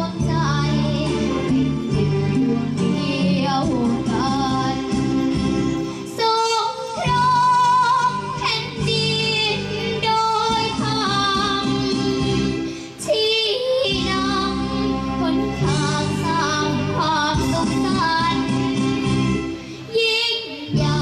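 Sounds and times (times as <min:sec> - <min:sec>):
girl singing into a microphone: 0:00.0 - 0:21.0
recorded backing track: 0:00.0 - 0:21.0.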